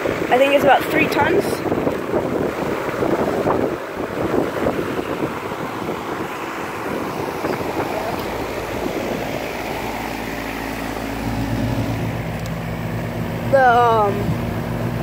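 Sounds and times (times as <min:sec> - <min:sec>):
air conditioner fan rushing: 0:00.0 - 0:15.0
low compressor hum: 0:00.0 - 0:15.0.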